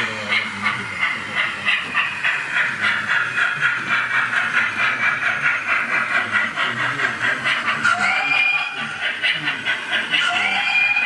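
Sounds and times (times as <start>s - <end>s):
model steam locomotive chuffing: 0.0s - 11.0s.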